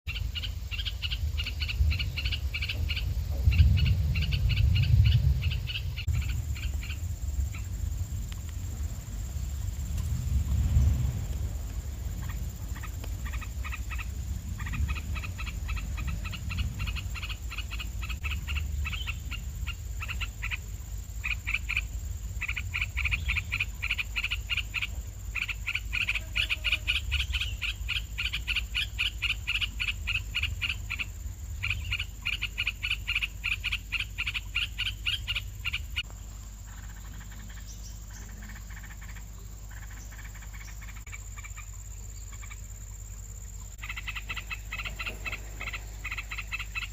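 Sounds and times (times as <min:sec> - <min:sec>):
steady low rumble: 0:00.1 - 0:26.0, 0:26.8 - 0:46.9
nestling birds begging calls: 0:00.1 - 0:46.9.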